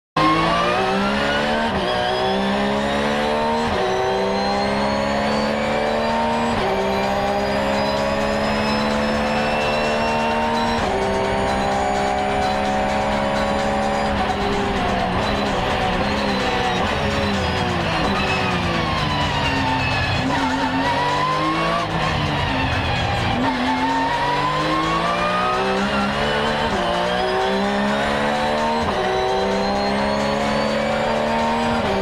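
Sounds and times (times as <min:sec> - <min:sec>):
car engine accelerating: 0:00.2 - 0:32.0.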